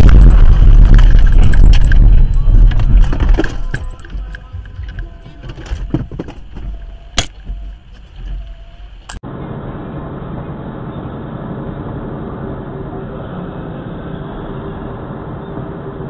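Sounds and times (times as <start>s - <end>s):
truck engine and road drone: 0.0s - 16.0s.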